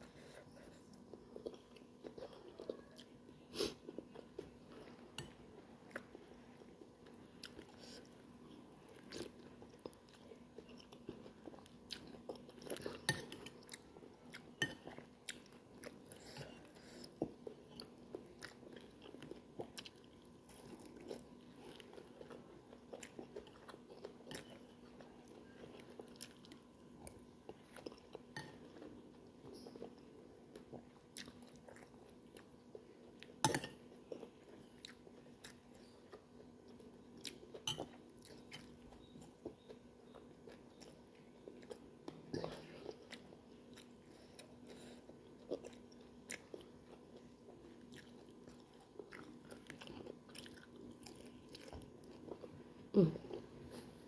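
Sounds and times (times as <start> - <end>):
person chewing wetly: 3.8 - 53.8.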